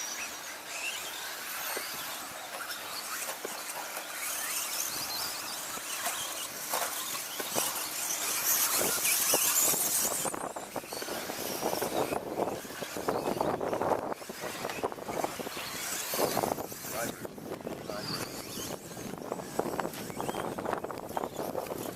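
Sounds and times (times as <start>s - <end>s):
toy car motors whining: 0.0s - 21.9s.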